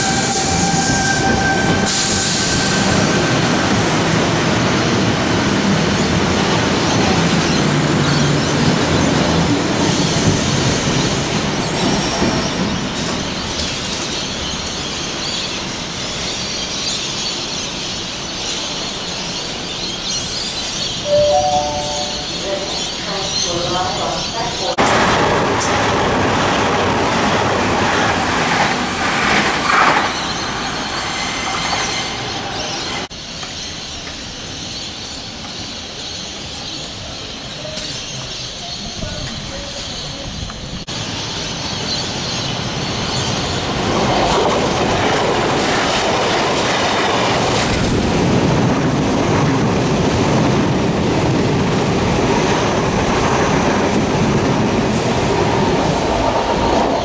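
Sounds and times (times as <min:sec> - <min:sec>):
electric trains passing: 0:00.0 - 0:57.0.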